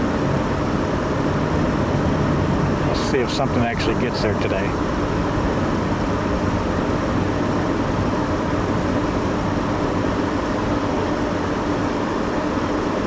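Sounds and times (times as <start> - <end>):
car engine running: 0.0 - 11.9
air-conditioning blower: 0.0 - 13.0.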